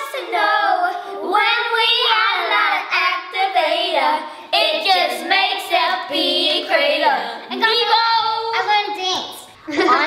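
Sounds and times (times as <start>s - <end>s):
girls singing together: 0.0s - 8.7s.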